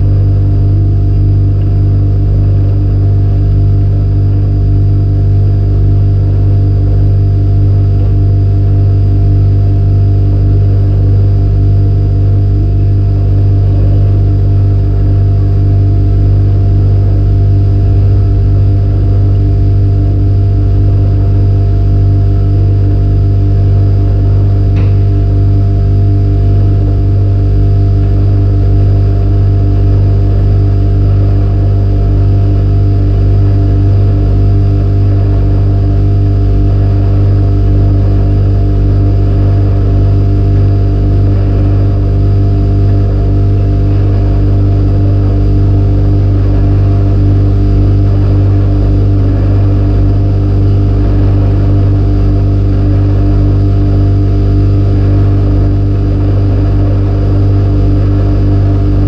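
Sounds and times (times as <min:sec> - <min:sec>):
faint high whine: 0:00.0 - 0:59.0
refrigerator hum: 0:00.0 - 0:59.0.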